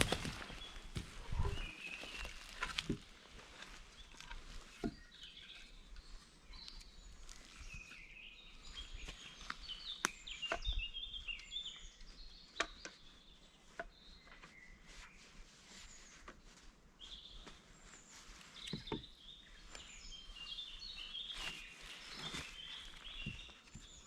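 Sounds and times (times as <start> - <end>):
songbirds singing and chirping: 0.0 - 24.0.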